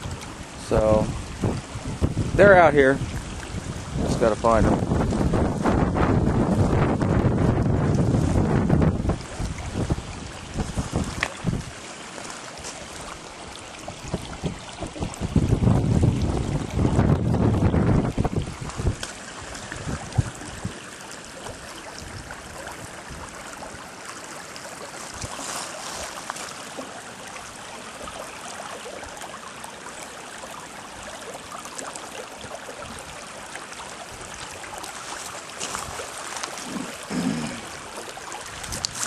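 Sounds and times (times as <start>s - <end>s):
creek rushing over rocks: 0.0s - 39.0s.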